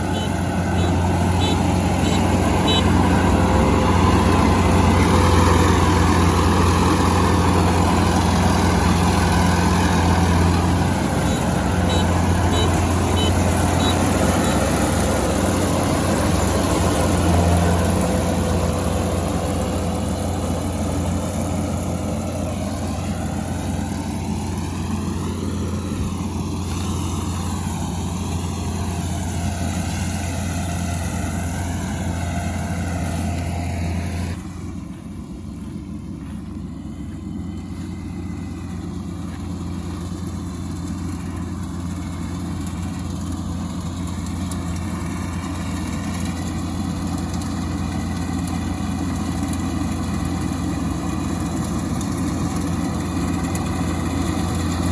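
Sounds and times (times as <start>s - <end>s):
combine harvester running: 0.0s - 54.9s.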